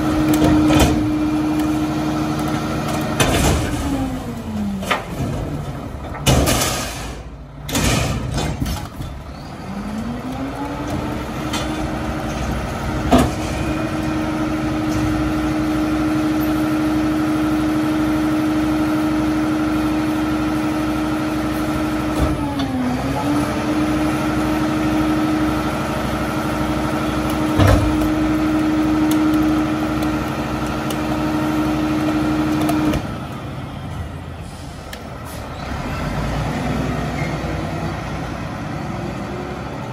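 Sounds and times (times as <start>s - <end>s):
garbage truck engine and hydraulics: 0.0s - 39.9s.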